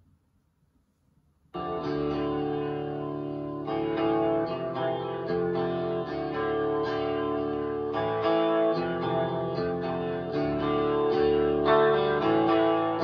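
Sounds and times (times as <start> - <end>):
rock music from speakers: 1.6 - 13.0.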